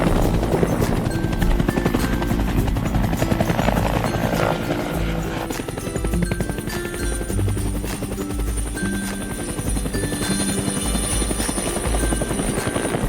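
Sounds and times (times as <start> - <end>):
background music with pulsing bass: 0.0 - 13.0
helicopter rotor chop: 0.0 - 13.0.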